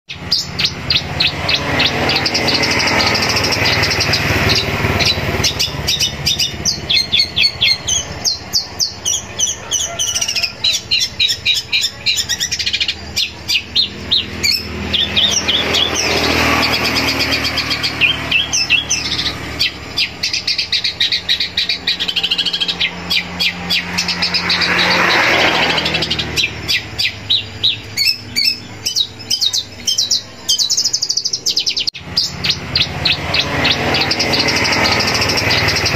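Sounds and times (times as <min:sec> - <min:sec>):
shrike singing chattering song: 0:00.1 - 0:35.9.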